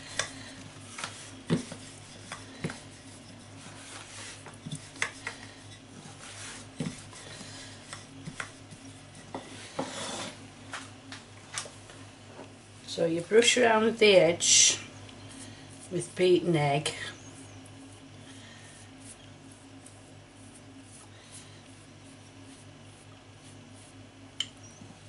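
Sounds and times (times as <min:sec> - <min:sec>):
rolling pin rubbing on pastry: 0:00.0 - 0:10.5, 0:14.4 - 0:24.8.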